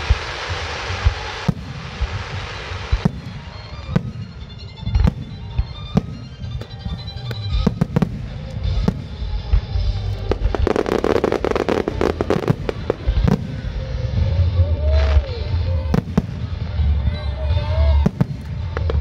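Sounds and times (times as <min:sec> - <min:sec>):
firework crackling: 0:00.0 - 0:19.0.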